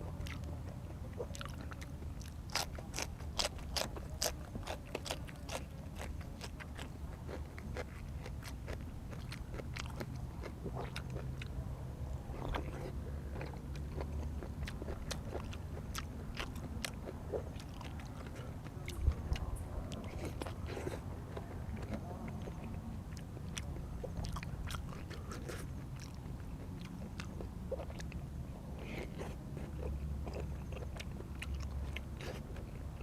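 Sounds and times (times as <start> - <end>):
crunchy food chewing: 0.0 - 33.0
steady low hum: 0.0 - 33.0.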